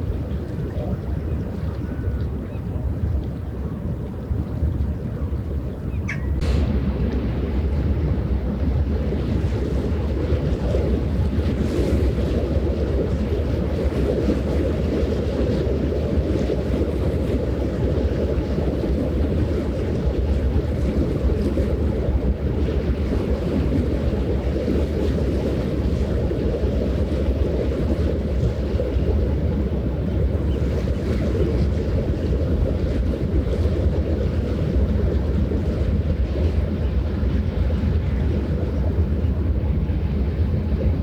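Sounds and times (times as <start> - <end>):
water along shore: 0.0 - 41.0
wind buffeting microphone: 0.0 - 41.0.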